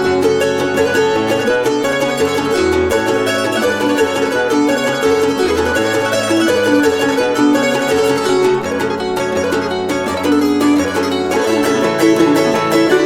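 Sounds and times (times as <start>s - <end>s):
plucked zither music: 0.0s - 13.0s.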